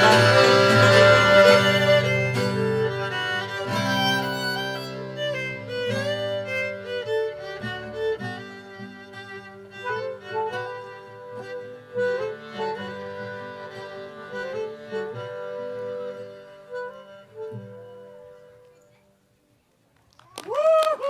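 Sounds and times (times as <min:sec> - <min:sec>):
violin melody: 0:00.0 - 0:18.6
folk band playing a reel: 0:00.0 - 0:19.0.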